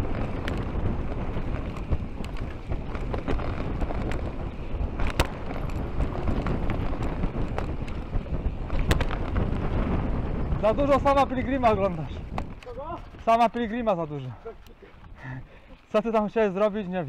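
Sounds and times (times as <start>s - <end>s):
wind rushing over microphone: 0.0s - 16.4s
bike rattling over bumps: 0.0s - 17.0s
tyres rolling on dirt trail: 0.0s - 17.0s.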